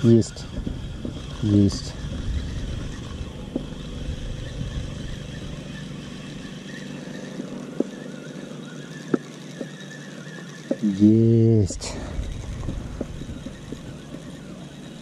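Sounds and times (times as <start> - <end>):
reel clicks: 0.0 - 10.9, 11.7 - 15.0
fishing reel whirring: 0.0 - 15.0.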